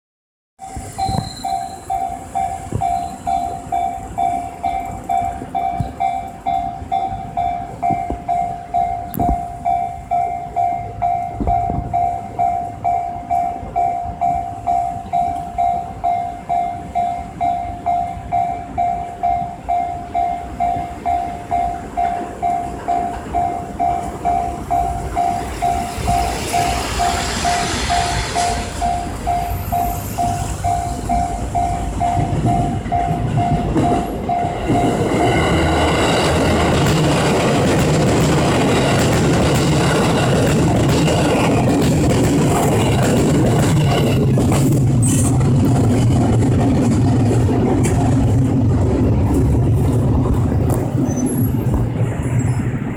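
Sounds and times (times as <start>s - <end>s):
level crossing warning bell: 0.6s - 45.7s
train approaching rushing: 0.6s - 52.9s.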